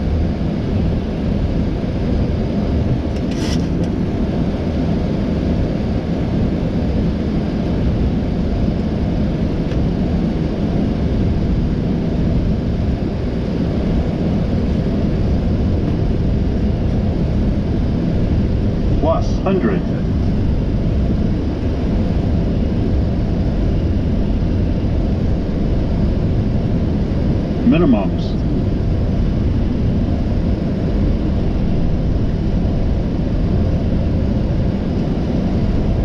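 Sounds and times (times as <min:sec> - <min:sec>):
rumble of rushing air and engines: 0:00.0 - 0:36.0.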